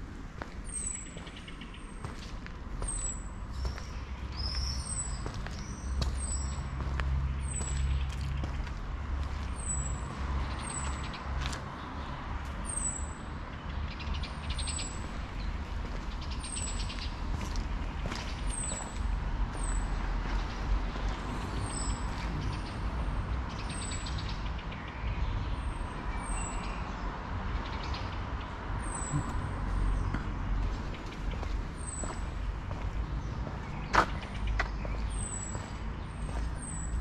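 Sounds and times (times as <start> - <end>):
low rumble of traffic: 0.0 - 37.0.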